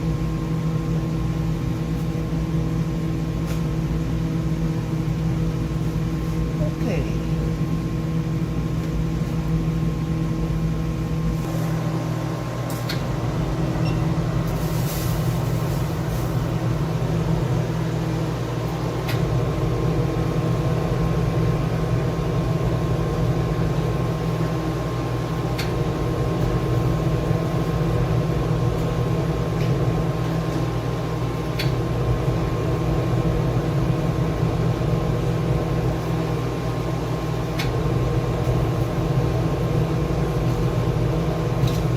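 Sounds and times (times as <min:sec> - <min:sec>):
machine hum: 0:00.0 - 0:41.9.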